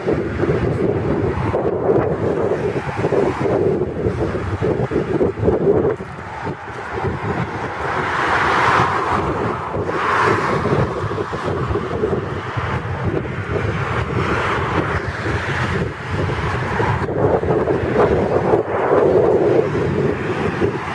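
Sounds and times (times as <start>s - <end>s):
fast traffic passing: 0.0s - 20.9s
wind buffeting microphone: 0.0s - 20.9s.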